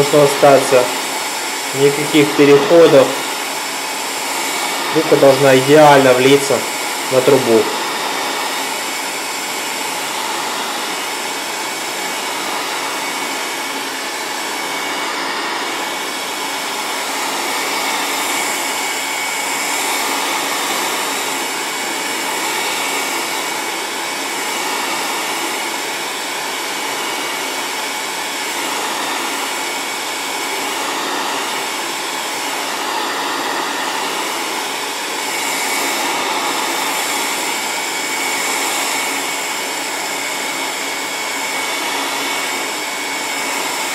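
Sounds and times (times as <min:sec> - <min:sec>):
heat gun blowing air: 0:00.0 - 0:43.9.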